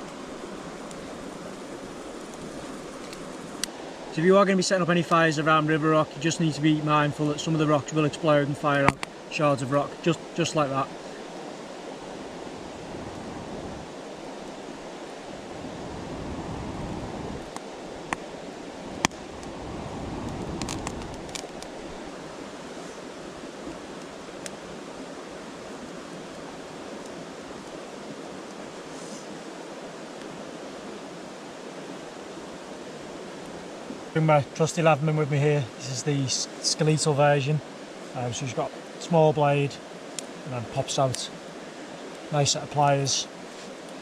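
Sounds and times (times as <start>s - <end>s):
campfire crackling: 0.0s - 44.0s
river flowing: 0.0s - 44.0s.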